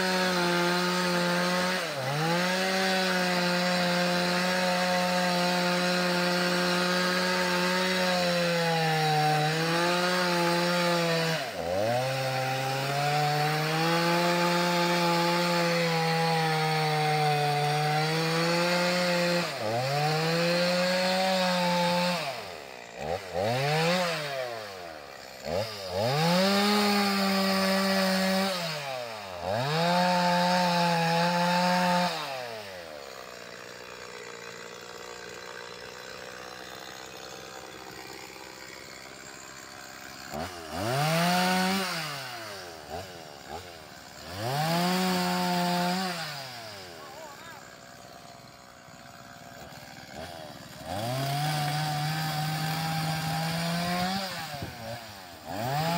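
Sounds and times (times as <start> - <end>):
chainsaw cutting timber: 0.0 - 55.9.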